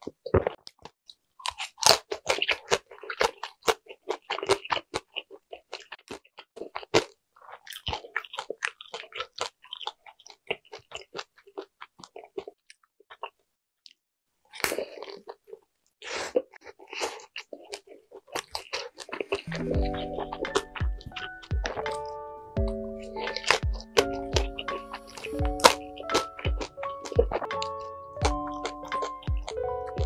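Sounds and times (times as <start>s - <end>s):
wet chewing mouth noises: 0.0s - 13.4s, 14.5s - 30.0s.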